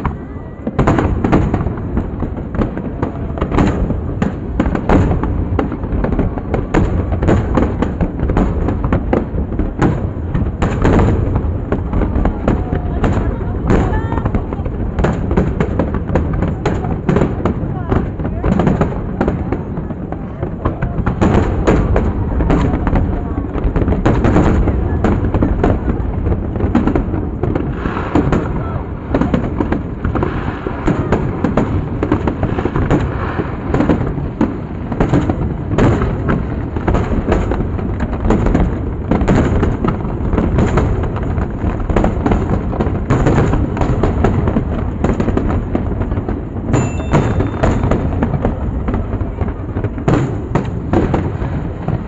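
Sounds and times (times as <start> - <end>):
fireworks bursting: 0.0 - 52.0.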